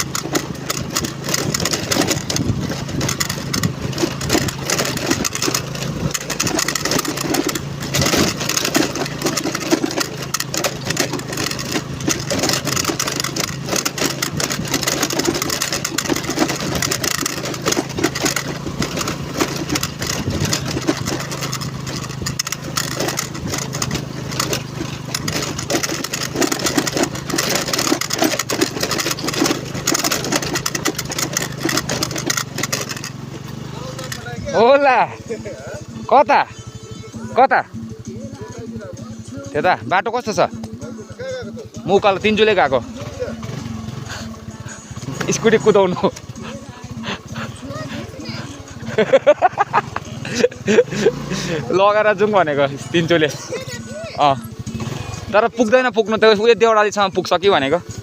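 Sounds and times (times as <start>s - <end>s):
small motorbike engine running: 0.0s - 58.0s.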